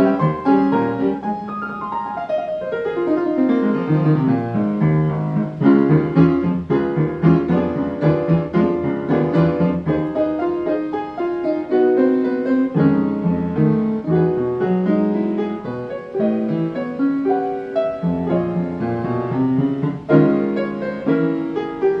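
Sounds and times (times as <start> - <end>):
piano piece: 0.0 - 22.0.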